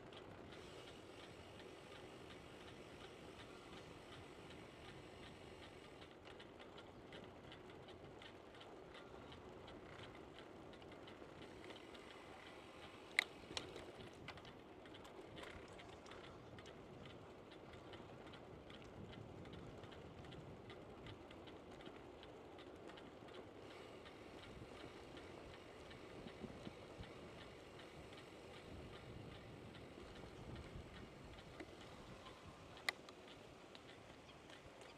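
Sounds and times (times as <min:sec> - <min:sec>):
bicycle freewheel ticking: 0:00.0 - 0:34.9.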